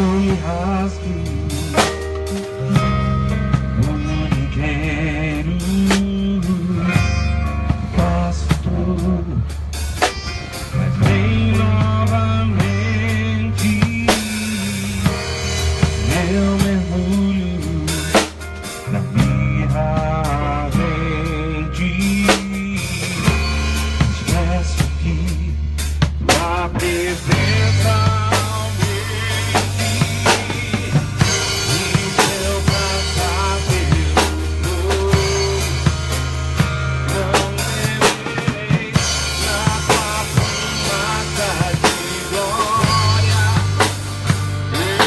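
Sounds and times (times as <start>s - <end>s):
wavering lead melody: 0.0s - 22.0s, 27.0s - 45.0s
drum kit: 0.0s - 45.0s
held bass notes: 0.0s - 45.0s.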